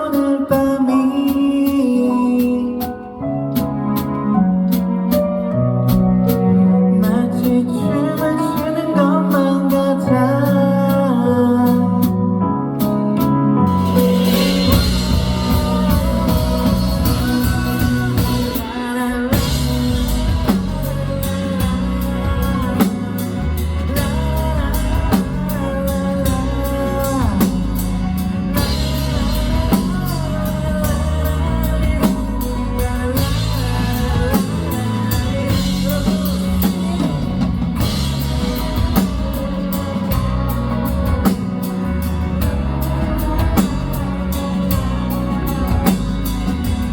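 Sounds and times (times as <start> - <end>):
live rock band: 0.0 - 46.9
melodic lead line: 0.0 - 46.9.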